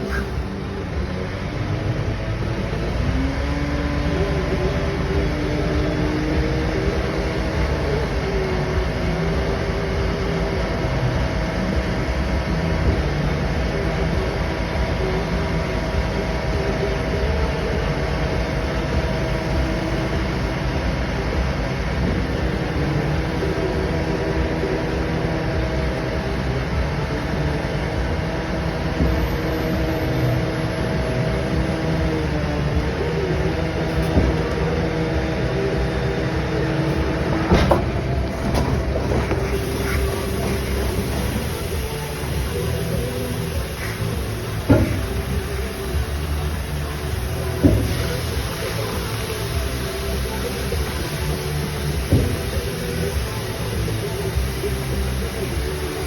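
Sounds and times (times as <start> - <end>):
engine whine: 0.0 - 56.0
truck diesel engine rumbling: 0.0 - 56.0.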